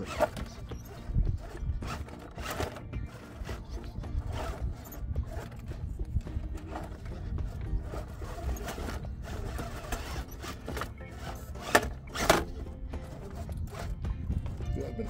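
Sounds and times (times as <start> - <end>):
tires knocking and scraping on rock: 0.0 - 15.0.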